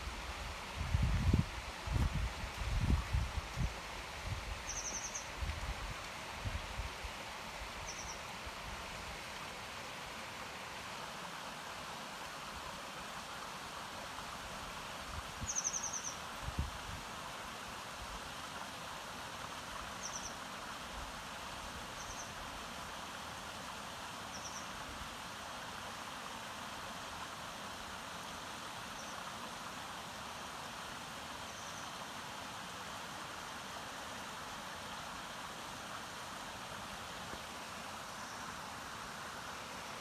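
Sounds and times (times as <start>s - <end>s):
stream running over rocks: 0.0s - 40.0s.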